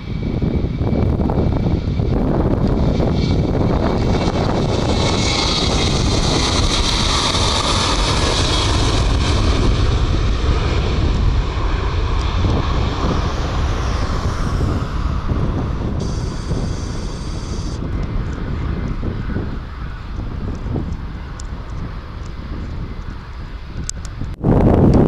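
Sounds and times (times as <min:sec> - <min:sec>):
jet engines rumbling and whining: 0:00.0 - 0:25.0.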